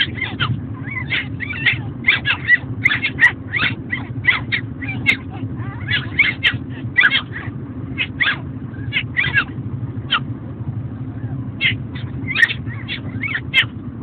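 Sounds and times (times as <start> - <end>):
puppies whimpering and squeaking: 0.0 - 10.3, 11.0 - 13.8
steady low hum: 0.0 - 14.0.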